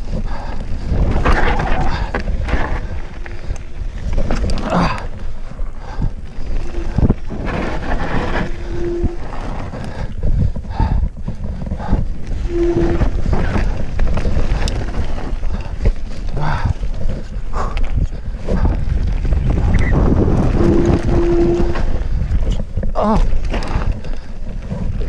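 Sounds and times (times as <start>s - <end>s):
bike rattling over bumps: 0.0s - 25.0s
tyres rumbling over dirt: 0.0s - 25.0s
wind buffeting microphone: 0.0s - 25.0s.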